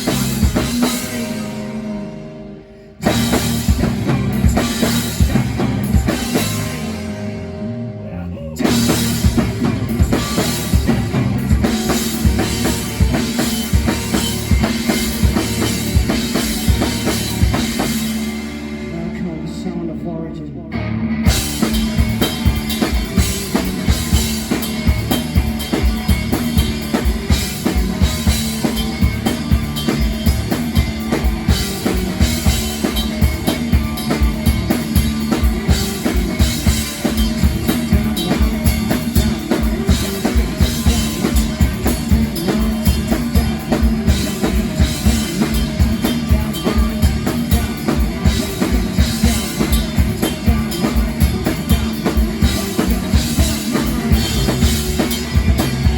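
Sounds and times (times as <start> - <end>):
drum kit fast beat: 0.0 - 2.1, 3.0 - 7.4, 8.5 - 19.6, 21.3 - 55.9
live band music: 0.0 - 55.9.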